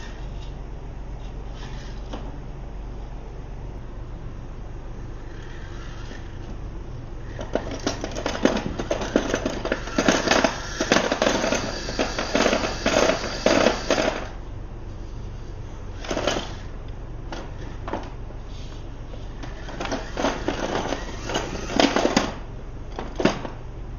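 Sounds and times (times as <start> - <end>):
electric motor and gears rattling: 0.0 - 3.2, 4.6 - 23.9.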